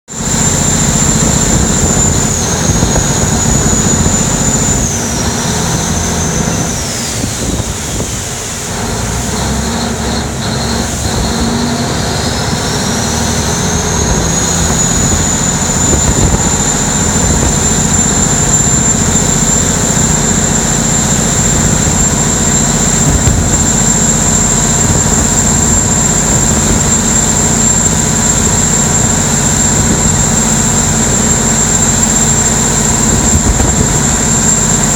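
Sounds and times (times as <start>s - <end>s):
boat engine droning: 0.1s - 34.9s
water spray rushing: 0.2s - 34.9s.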